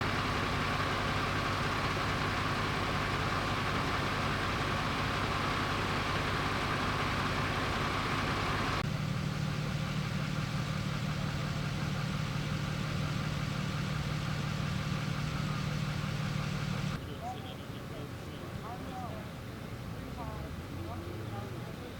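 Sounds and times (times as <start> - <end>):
vehicle engines idling: 0.0 - 21.9.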